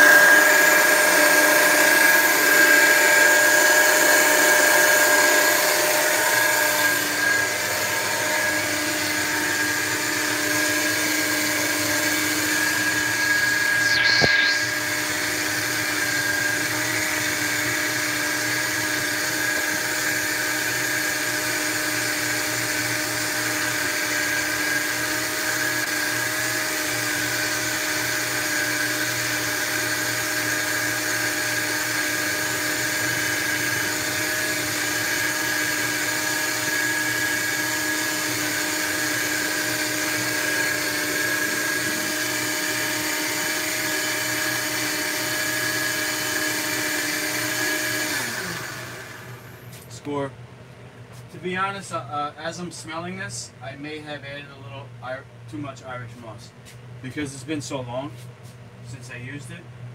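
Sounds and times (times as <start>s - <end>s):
blender motor running: 0.0s - 49.8s.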